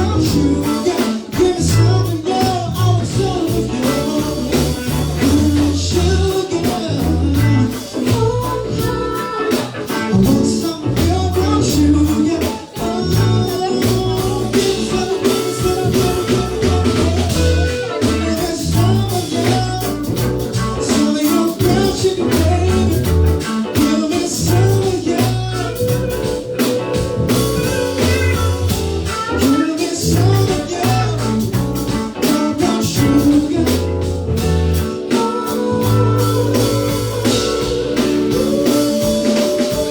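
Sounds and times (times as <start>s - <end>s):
bass guitar: 0.0s - 39.9s
drum kit beat: 0.0s - 39.9s
electric guitar: 0.0s - 39.9s
person singing: 0.0s - 39.9s.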